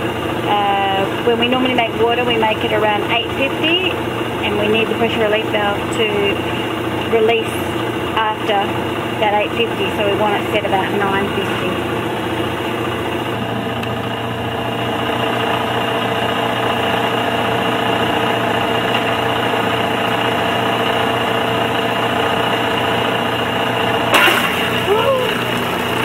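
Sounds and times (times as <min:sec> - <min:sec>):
high-pressure pump running: 0:00.0 - 0:26.0.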